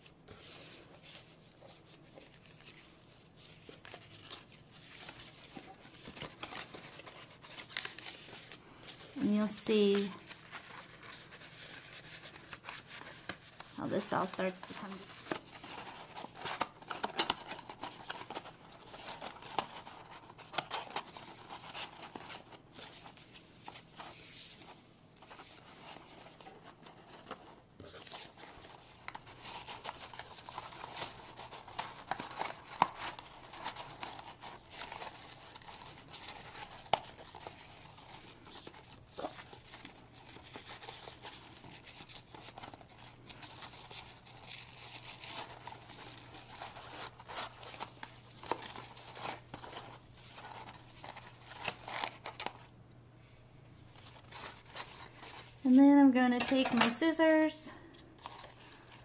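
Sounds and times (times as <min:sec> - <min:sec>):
cardstock and ribbon rustling: 0:00.0 - 0:52.8, 0:53.9 - 0:59.0.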